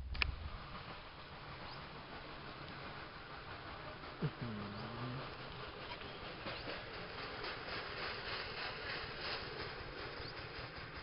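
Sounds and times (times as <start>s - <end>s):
rail trolley running on track: 0.0s - 11.0s.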